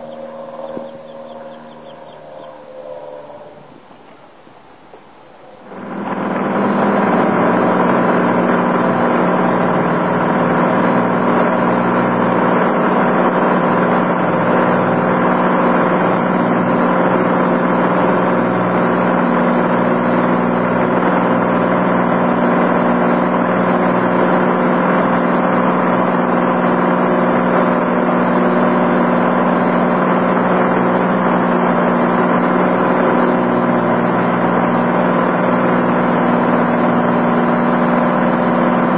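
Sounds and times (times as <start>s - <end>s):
propeller plane engine droning: 0.0s - 4.1s, 5.4s - 38.9s.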